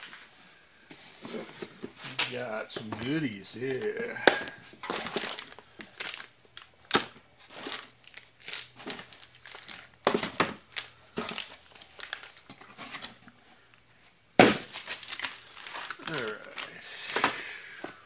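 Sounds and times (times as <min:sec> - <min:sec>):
plastic bags crinkling: 0:01.1 - 0:13.3, 0:14.4 - 0:17.9.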